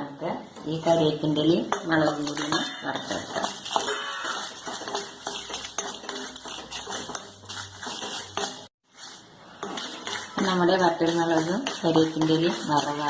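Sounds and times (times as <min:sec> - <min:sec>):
spoon scraping a pan: 0:00.6 - 0:13.0.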